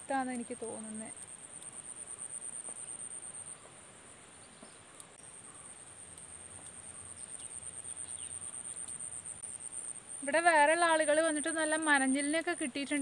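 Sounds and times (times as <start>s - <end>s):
faint outdoor background noise: 0.0s - 13.0s
insects trilling: 0.0s - 13.0s.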